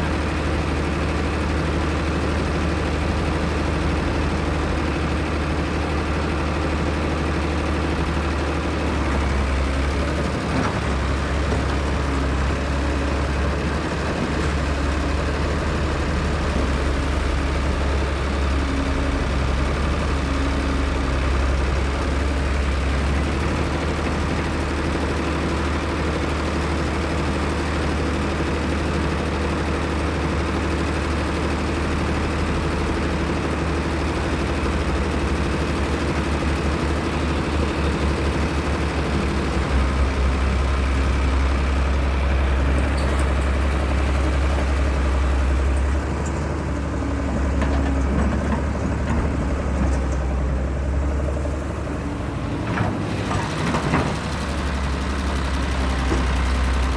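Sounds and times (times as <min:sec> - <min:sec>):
excavator diesel engine droning: 0:00.0 - 0:56.9.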